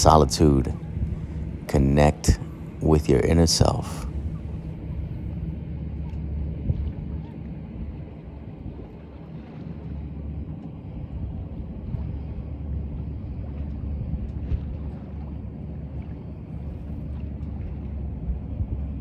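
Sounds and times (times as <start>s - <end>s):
water moving along hull: 0.0s - 19.0s
wind buffeting microphone: 0.0s - 19.0s.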